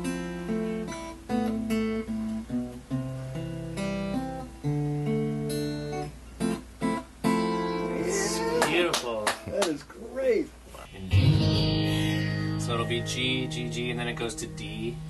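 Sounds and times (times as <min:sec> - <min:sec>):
acoustic guitar strumming chords: 0:00.0 - 0:08.5, 0:10.9 - 0:15.0.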